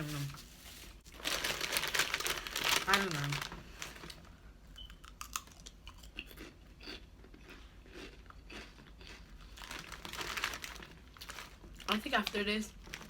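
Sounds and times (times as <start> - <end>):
crisp snack crunching: 1.1 - 4.2, 5.0 - 13.0.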